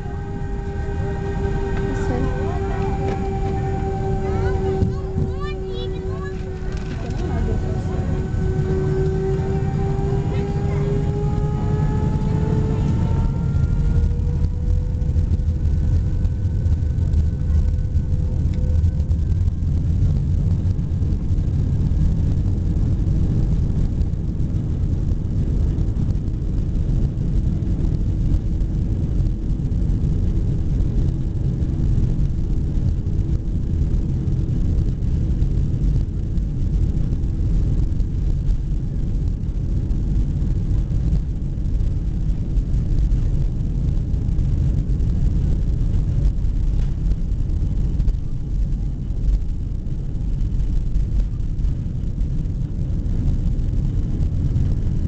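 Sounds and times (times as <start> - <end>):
airliner cabin engine rumble: 0.0 - 55.0
faint steady tones: 0.0 - 55.0.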